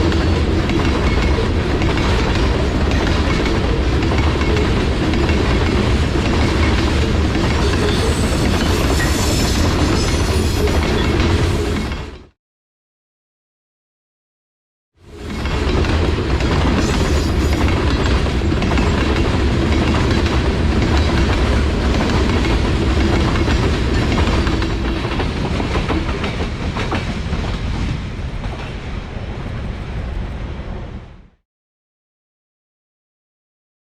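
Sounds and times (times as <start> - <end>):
train wheels rumbling on rail: 0.0 - 12.4, 15.0 - 31.4.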